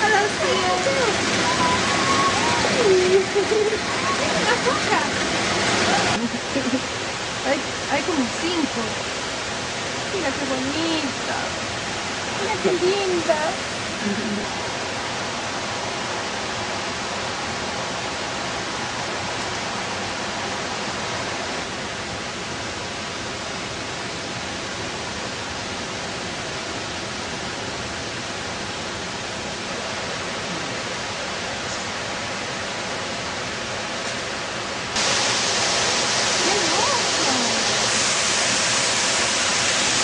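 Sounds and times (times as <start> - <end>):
water running over rocks: 0.0 - 40.0.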